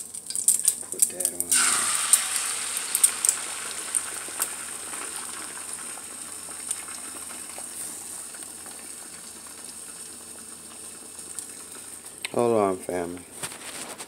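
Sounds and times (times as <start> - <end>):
eggs sizzling in a skillet: 0.0 - 14.0.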